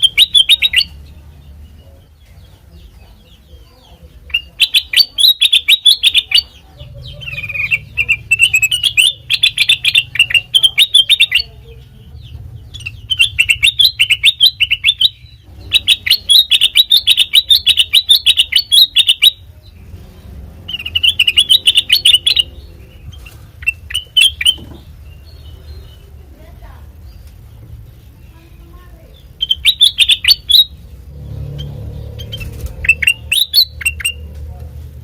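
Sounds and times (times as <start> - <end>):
bulbul singing rapid chirps: 0.0 - 34.6.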